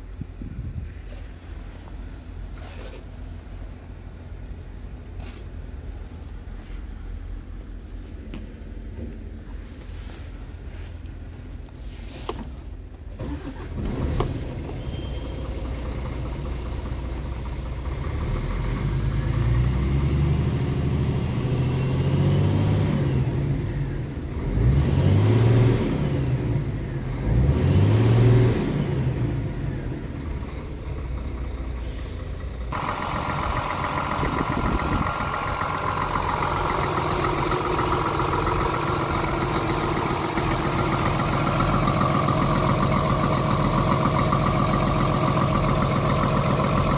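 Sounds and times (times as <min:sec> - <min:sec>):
diesel engine idling and revving: 0:00.0 - 0:46.9.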